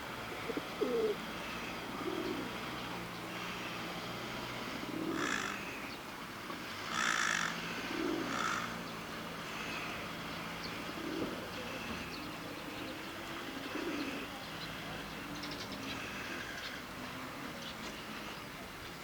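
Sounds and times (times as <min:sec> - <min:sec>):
low cooing call: 0:00.2 - 0:06.0, 0:06.9 - 0:18.4.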